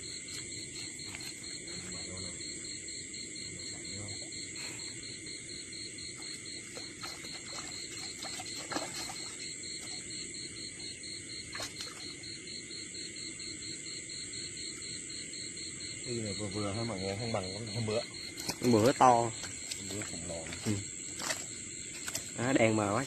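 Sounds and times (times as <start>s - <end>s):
insects trilling: 0.0s - 23.0s
pulsing insect trill: 0.0s - 23.0s.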